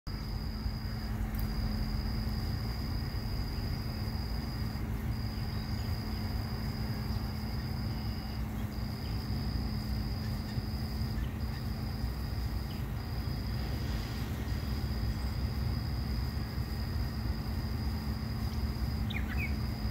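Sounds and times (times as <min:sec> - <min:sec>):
constant hum: 0:00.1 - 0:19.9
low outdoor rumble: 0:00.1 - 0:19.9.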